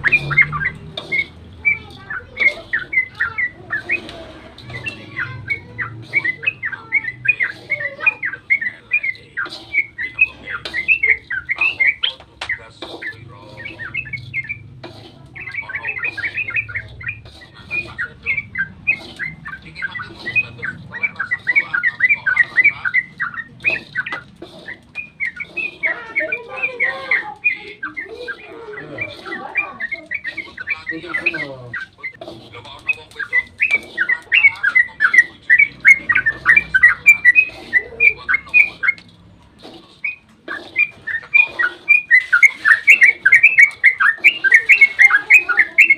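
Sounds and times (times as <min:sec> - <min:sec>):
bird singing chattering song: 0:00.0 - 0:45.9.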